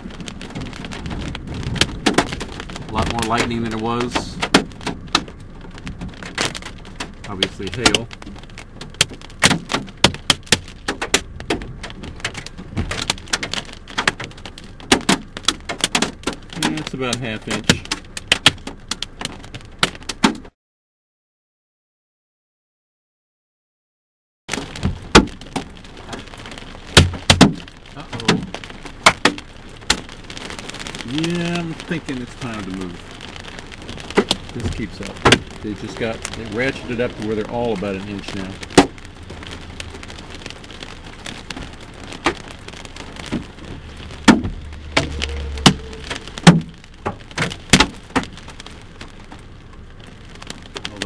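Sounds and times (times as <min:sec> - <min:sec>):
rain hissing: 0:00.0 - 0:20.3, 0:24.5 - 0:51.0
hail banging on car body: 0:00.0 - 0:20.5, 0:24.5 - 0:51.0.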